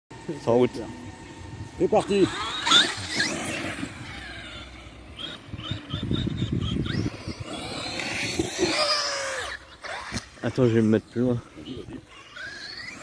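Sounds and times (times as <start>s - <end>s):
electric motor whining: 0.2s - 13.0s.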